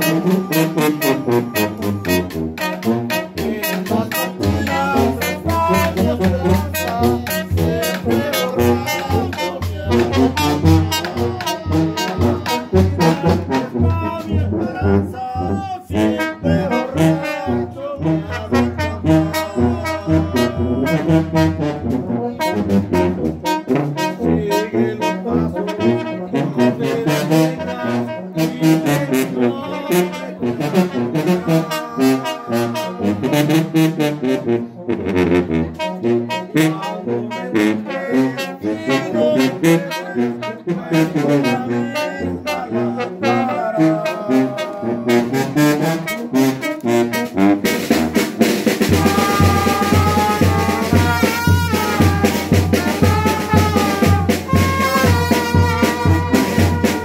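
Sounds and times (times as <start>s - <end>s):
brass band playing: 0.0s - 57.0s
tuba bass line: 0.0s - 57.0s.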